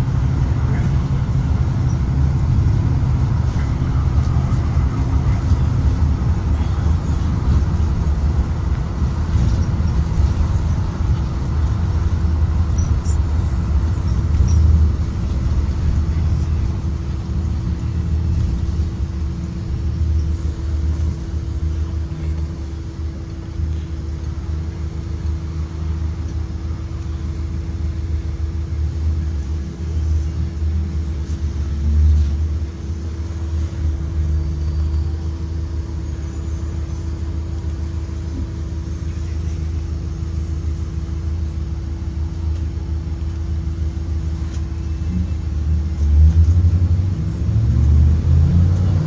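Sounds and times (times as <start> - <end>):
bus engine and road rumble: 0.0 - 49.0
constant hum: 0.0 - 49.0.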